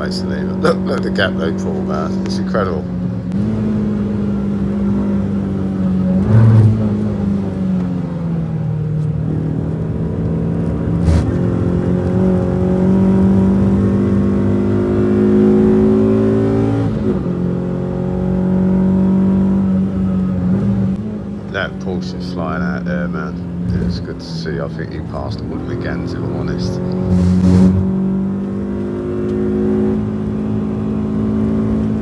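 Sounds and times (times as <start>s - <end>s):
car engine under hard driving: 0.0s - 32.0s.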